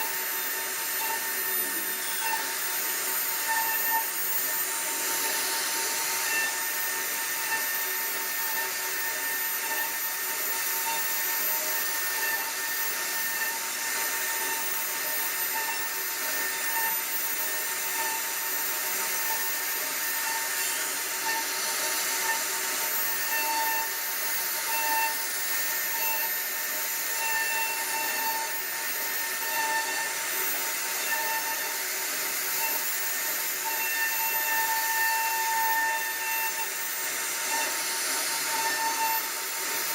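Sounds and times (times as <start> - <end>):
hiss of cutting wood: 0.0 - 39.9
router spindle whine: 0.0 - 39.9.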